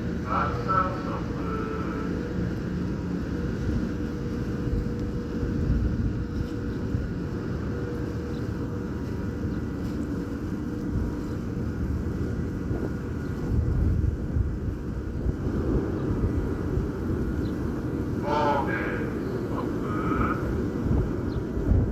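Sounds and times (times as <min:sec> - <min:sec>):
faint steady hum: 0:00.0 - 0:12.5, 0:15.2 - 0:21.6
ferry engines rumbling: 0:00.0 - 0:21.9.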